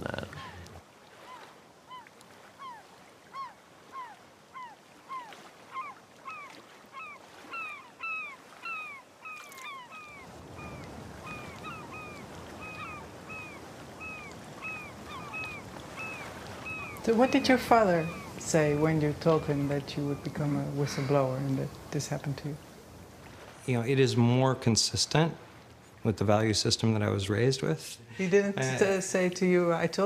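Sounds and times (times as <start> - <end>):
birds calling: 0.0 - 24.4
shoreline background: 0.0 - 30.0.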